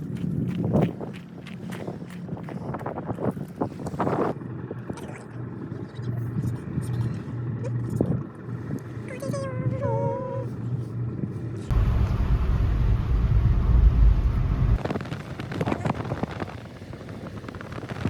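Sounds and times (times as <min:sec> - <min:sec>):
low rumbling noise: 0:02.2 - 0:18.0.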